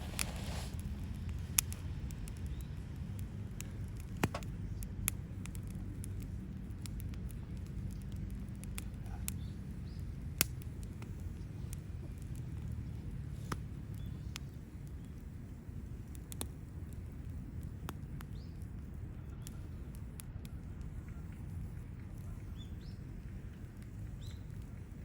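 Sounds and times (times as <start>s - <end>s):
steady low rumble: 0.0s - 25.0s
wood fire crackling and popping: 0.0s - 25.0s.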